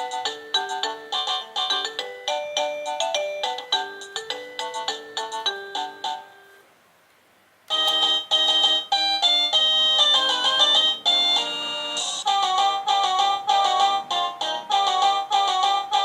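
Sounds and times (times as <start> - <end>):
doorbell electronic chime melodies: 0.0 - 6.6, 7.7 - 16.0.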